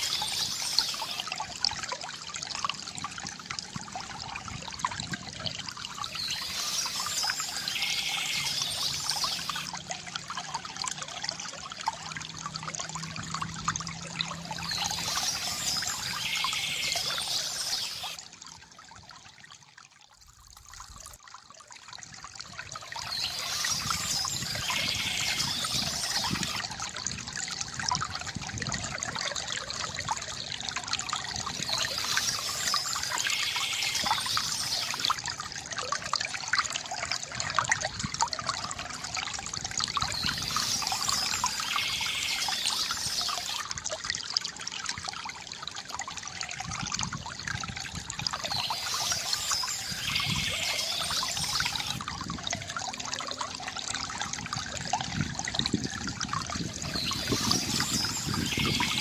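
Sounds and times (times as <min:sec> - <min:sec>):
fountain water gurgling: 0:00.0 - 0:59.0.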